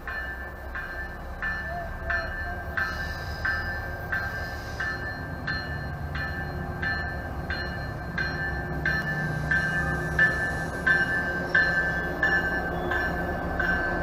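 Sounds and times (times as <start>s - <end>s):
train rumbling: 0.0s - 14.0s
warning bell ringing: 0.0s - 14.0s.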